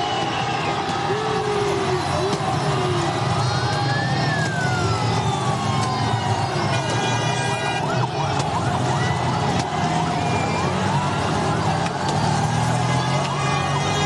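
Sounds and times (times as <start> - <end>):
crowd cheering: 0.0 - 14.0.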